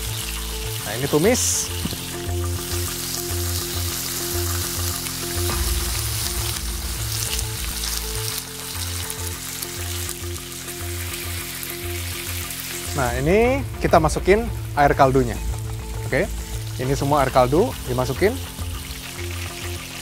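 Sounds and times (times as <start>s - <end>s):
spice paste sizzling in oil: 0.0s - 20.0s.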